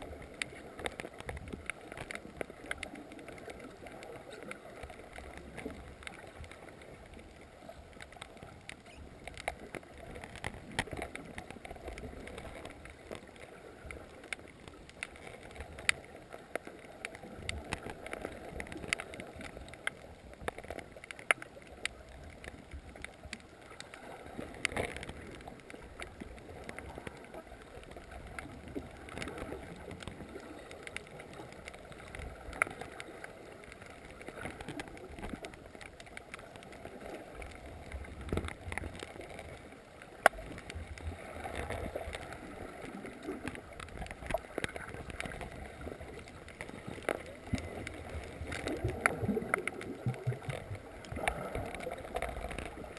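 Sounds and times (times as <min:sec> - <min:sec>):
low steady water rush: 0:00.0 - 0:52.9
sharp underwater clicks and crackles: 0:00.0 - 0:52.9.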